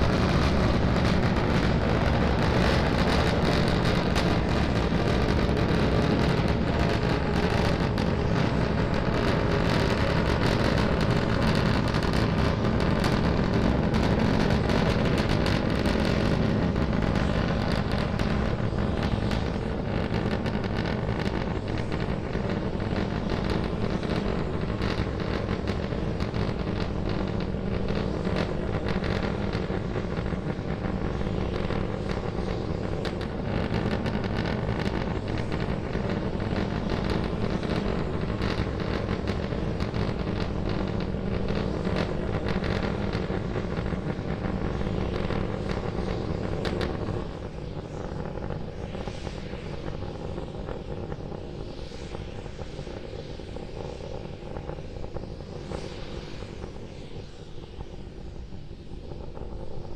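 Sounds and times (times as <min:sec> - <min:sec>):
rocket engine rumble and crackle: 0:00.0 - 0:59.9.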